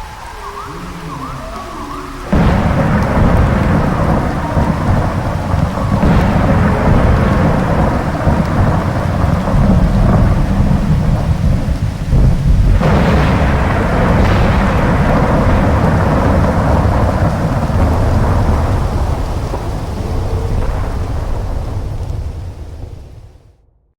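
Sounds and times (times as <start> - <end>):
steady rumbling: 0.0 - 23.5
rain-like hiss: 0.0 - 23.7.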